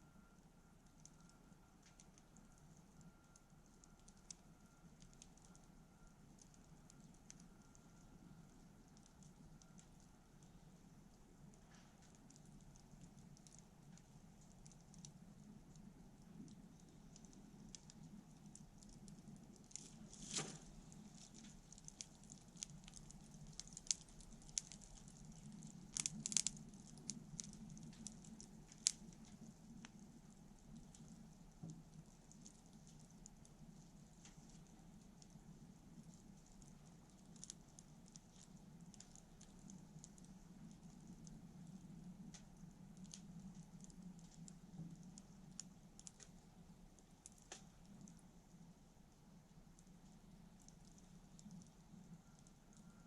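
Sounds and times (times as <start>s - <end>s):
faint low hum: 0.0s - 53.0s
campfire crackling and popping: 0.9s - 53.0s.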